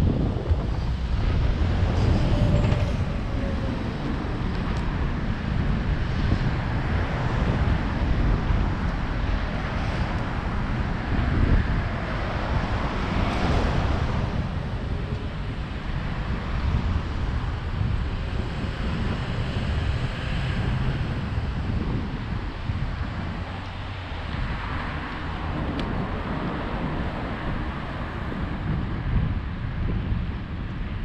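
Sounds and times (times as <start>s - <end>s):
city traffic noise: 0.0s - 31.0s
wind buffeting camera: 0.0s - 31.0s.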